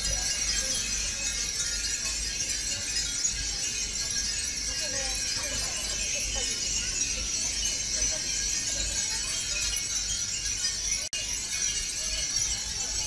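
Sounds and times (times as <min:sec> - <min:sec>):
faint voices: 0:00.0 - 0:13.0
wind chimes tinkling: 0:00.0 - 0:13.0.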